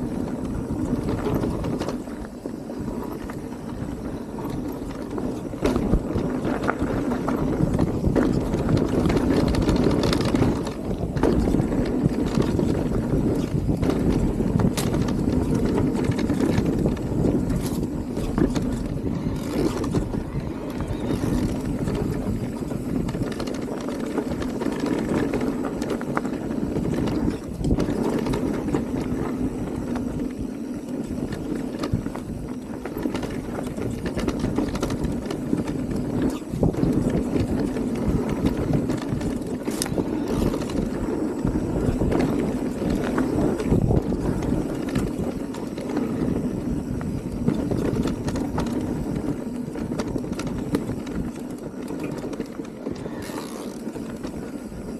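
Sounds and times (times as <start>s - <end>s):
bike rattling and knocking: 0.0s - 54.9s
tyre rumble over dirt: 0.0s - 54.9s.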